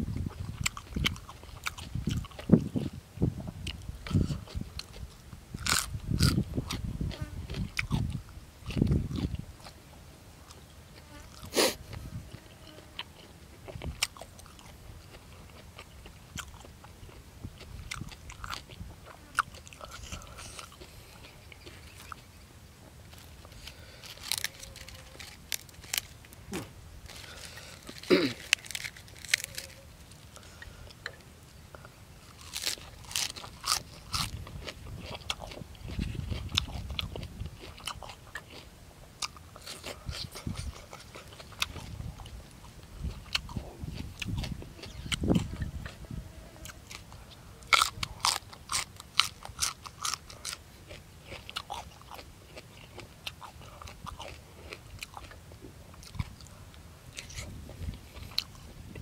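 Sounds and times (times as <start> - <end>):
chewing and biting: 0.1 - 9.8, 10.5 - 22.4, 23.1 - 31.2, 31.8 - 59.0.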